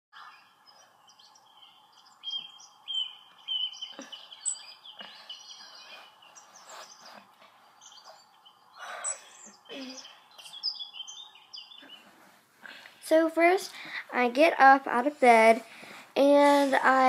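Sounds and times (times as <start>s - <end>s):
birds chirping: 0.2s - 14.0s.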